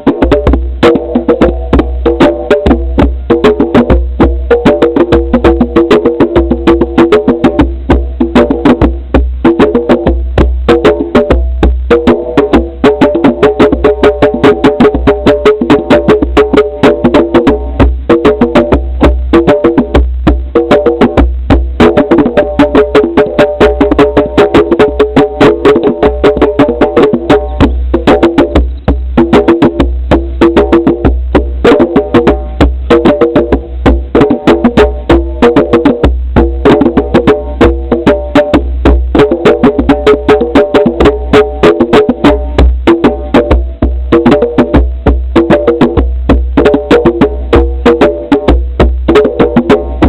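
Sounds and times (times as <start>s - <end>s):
fast pitched percussion strikes: 0.0s - 50.0s
heavy bass line: 0.0s - 50.0s.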